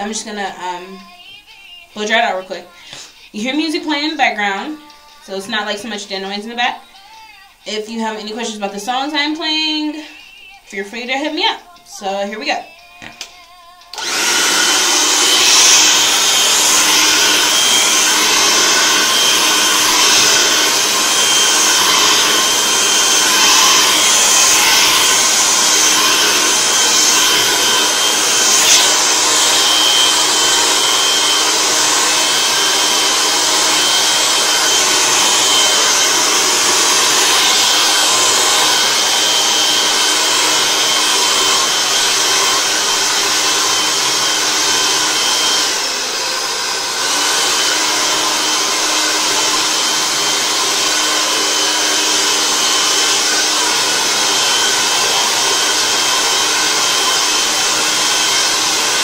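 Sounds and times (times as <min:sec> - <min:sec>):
hair dryer blowing: 0:00.0 - 0:01.4, 0:02.0 - 0:06.8, 0:07.7 - 0:13.2, 0:13.8 - 0:59.0.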